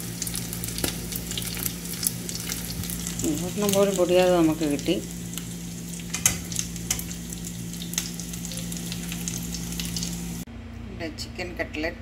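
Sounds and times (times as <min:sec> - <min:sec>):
hot oil sizzling in a frying pan: 0:00.0 - 0:10.4.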